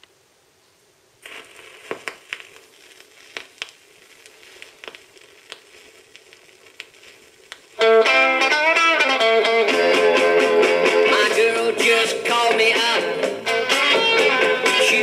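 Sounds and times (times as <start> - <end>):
record surface hiss: 0.0 - 15.0
vinyl crackles and pops: 0.0 - 15.0.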